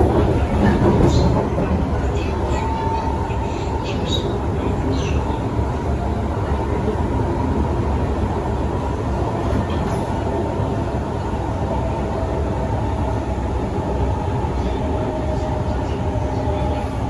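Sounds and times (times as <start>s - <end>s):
metro train wheels rumbling: 0.0s - 17.0s.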